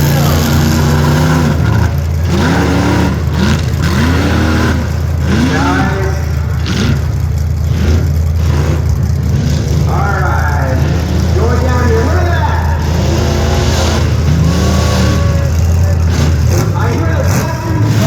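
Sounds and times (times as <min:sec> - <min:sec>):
race engine revving: 0:00.0 - 0:18.0.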